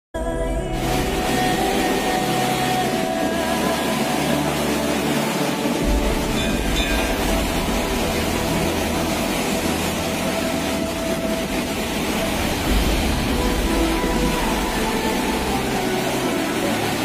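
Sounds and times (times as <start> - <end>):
floodwater roaring: 0.2 - 17.0.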